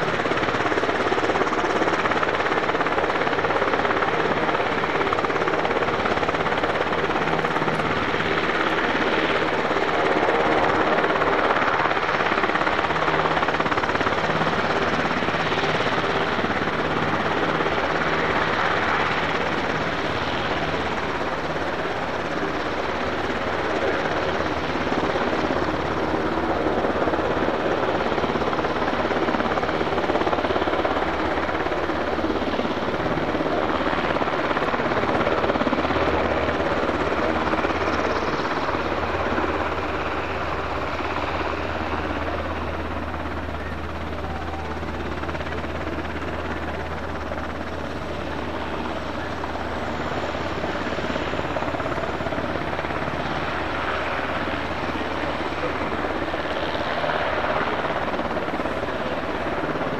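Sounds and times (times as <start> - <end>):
helicopter turbine and rotor: 0.0 - 59.9.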